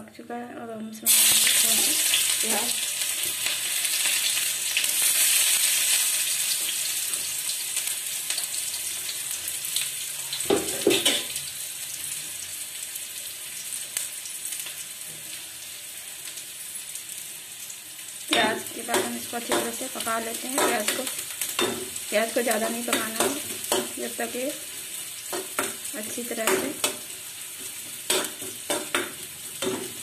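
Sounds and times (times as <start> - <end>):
onions sizzling in hot fat: 1.0 - 30.0.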